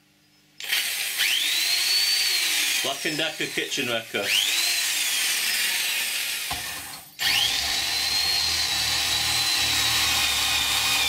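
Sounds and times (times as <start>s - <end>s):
drill bit boring into wood: 0.6s - 11.0s
electric drill motor whine: 0.6s - 11.0s.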